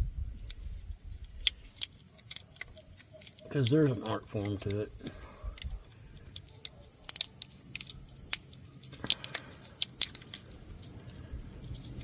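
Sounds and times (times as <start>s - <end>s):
clicks of plastic wire connectors: 1.3s - 11.9s.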